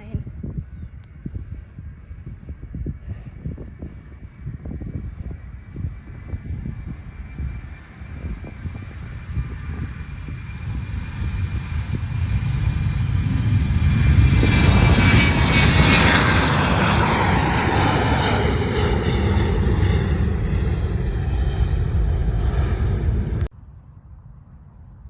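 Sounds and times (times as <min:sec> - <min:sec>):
airliner passing by: 0:00.0 - 0:25.0.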